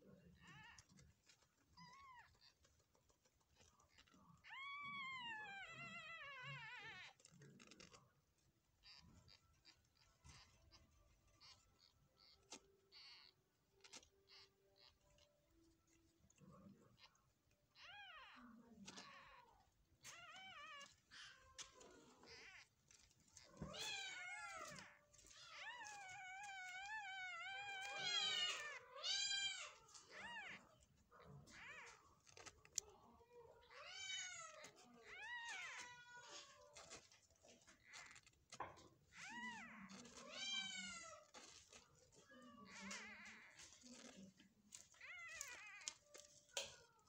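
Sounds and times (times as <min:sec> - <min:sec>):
kittens mewing: 0:00.0 - 0:47.0.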